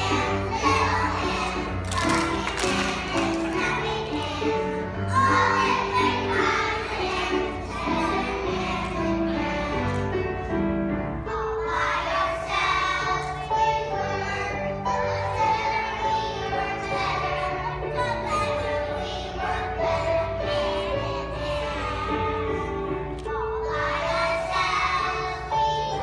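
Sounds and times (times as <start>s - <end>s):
children singing: 0.0s - 10.6s, 11.3s - 26.0s.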